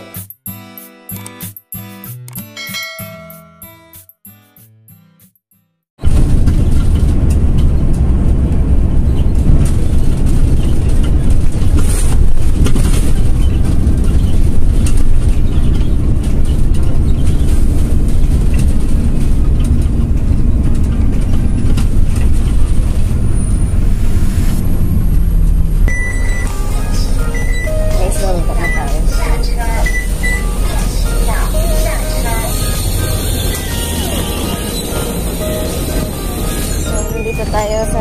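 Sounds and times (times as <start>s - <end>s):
bus engine and road rumble: 6.0s - 38.0s.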